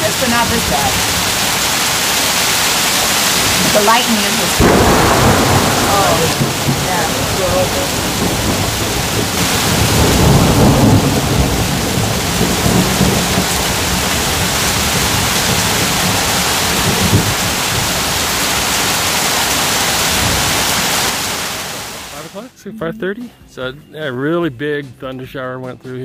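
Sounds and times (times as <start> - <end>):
thunder rumbling: 0.0 - 22.4
heavy rain roar: 0.0 - 22.7.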